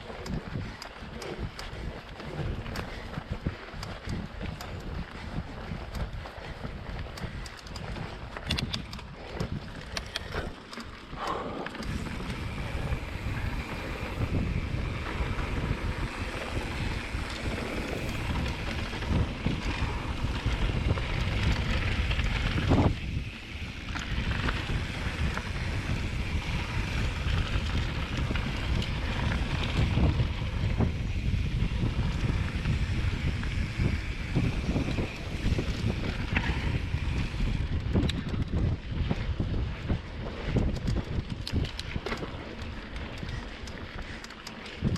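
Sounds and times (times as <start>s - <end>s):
bike rattling over bumps: 0.0s - 44.9s
bike tyres rumbling on dirt: 0.0s - 44.9s
wind buffeting microphone: 0.0s - 44.9s.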